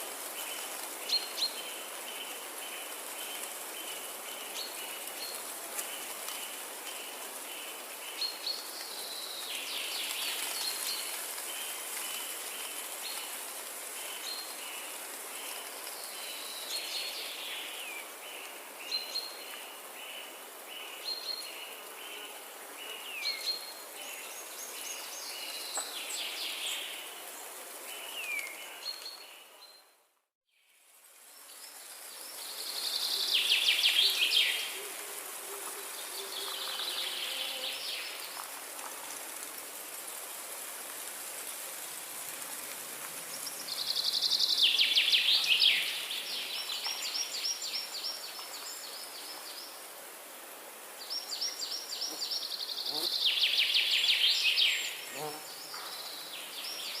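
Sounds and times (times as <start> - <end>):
steady background hiss: 0.0 - 29.6, 30.6 - 57.0.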